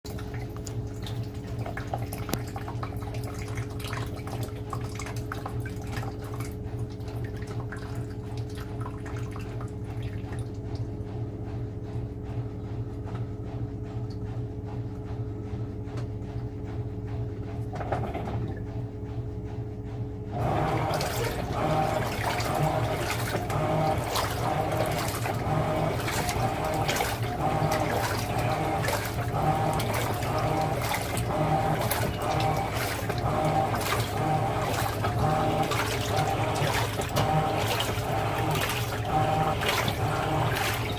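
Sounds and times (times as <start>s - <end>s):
washing machine motor hum: 0.0s - 40.9s
water sloshing in tub: 0.0s - 40.9s.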